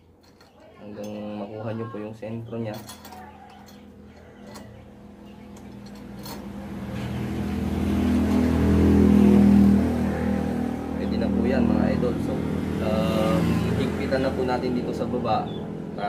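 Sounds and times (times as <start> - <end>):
vehicle engine approaching: 3.0 - 16.0.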